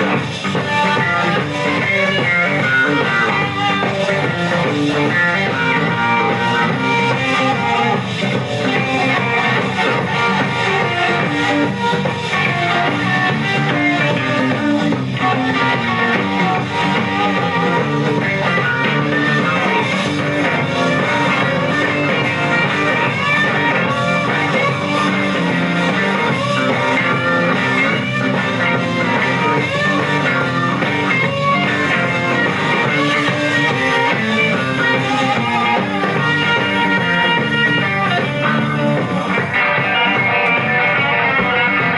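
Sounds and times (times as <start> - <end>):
bass and drums: 0.0 - 41.9
electric guitar lead with bends: 0.0 - 41.9.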